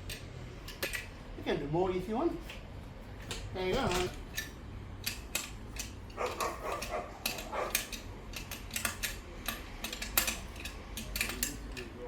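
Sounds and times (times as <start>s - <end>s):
metallic clicks and knocks of tools: 0.0s - 1.2s, 2.4s - 12.0s.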